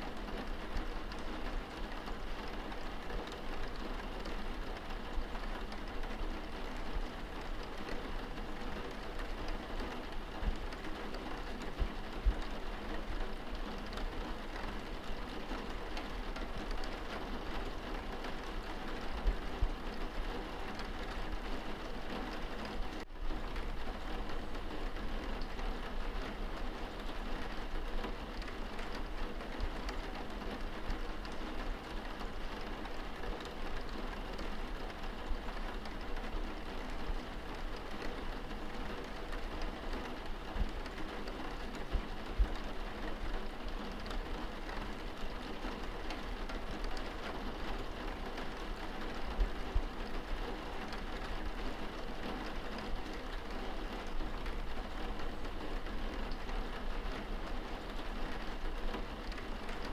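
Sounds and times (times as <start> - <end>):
rain pattering on window glass: 0.0 - 59.9.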